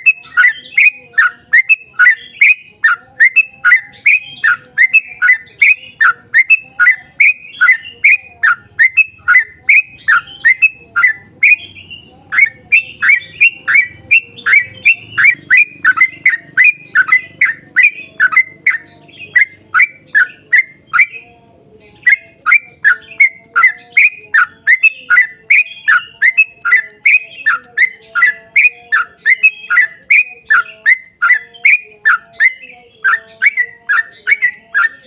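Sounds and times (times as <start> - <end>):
bird singing whistled notes: 0.0 - 35.0.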